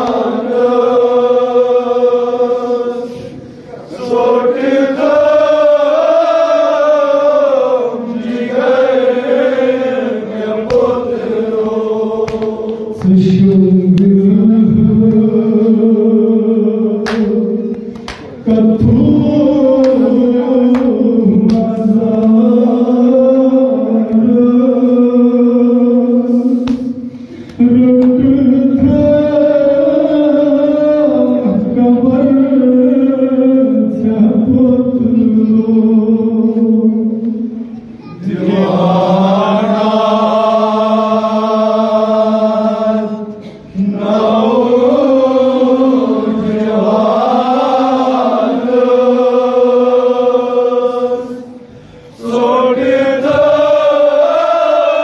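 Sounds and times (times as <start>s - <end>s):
lead reciter chanting: 0.0s - 55.0s
men chanting into microphones: 0.0s - 55.0s.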